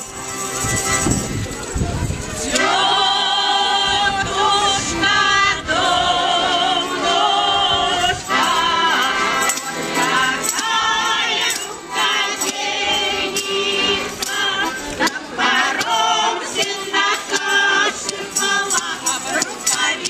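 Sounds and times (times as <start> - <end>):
accordion: 0.0 - 20.0
women's choir singing folk song: 2.2 - 20.0.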